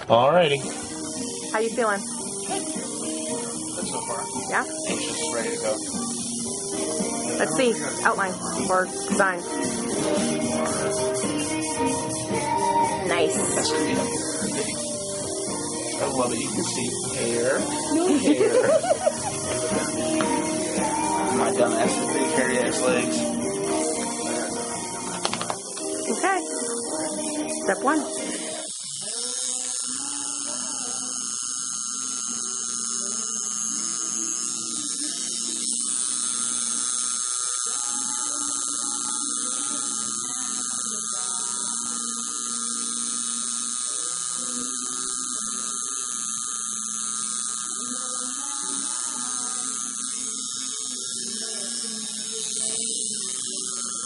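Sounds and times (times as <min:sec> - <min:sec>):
tattoo machine buzzing: 0:00.4 - 0:54.0.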